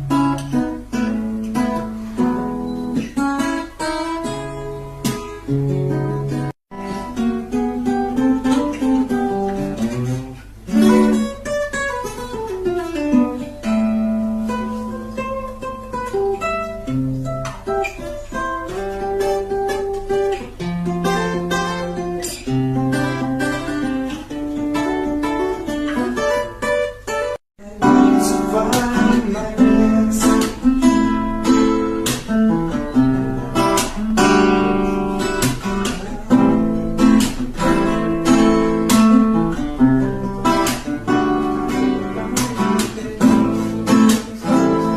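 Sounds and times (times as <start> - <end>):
acoustic guitar music: 0.0 - 44.9.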